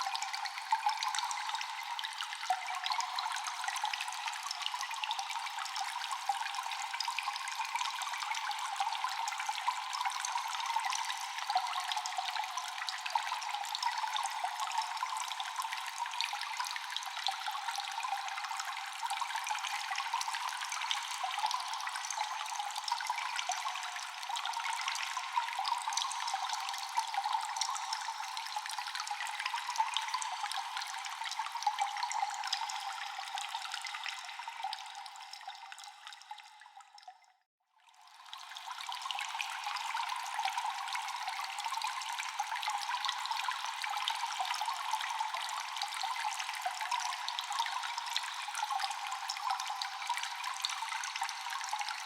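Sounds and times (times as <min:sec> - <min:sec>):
water dripping in a cave: 0:00.0 - 0:52.0.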